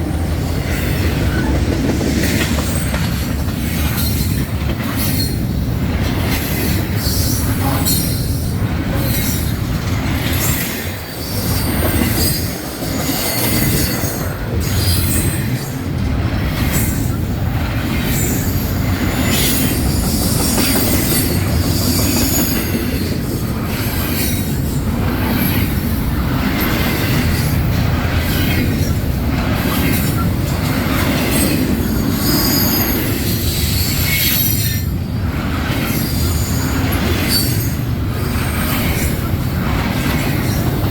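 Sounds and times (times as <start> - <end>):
train cars rumbling and clattering: 0.0 - 40.9
train wheels squealing on rails: 0.0 - 40.9.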